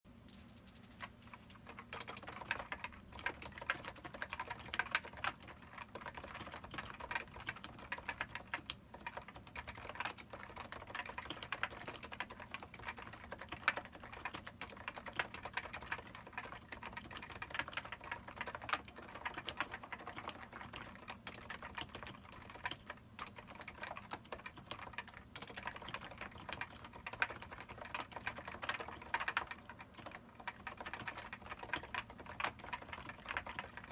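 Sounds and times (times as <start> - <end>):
fast keyboard typing: 0.4 - 33.9.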